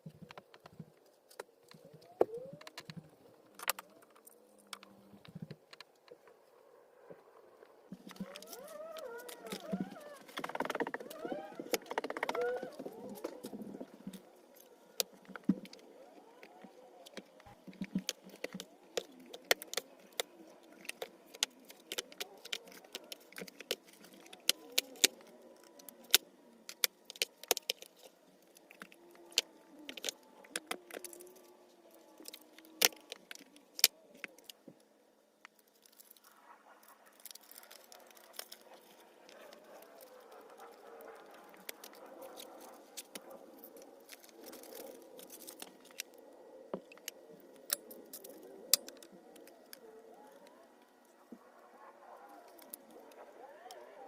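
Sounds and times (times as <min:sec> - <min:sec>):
soft steady hiss: 0:00.0 - 0:54.0.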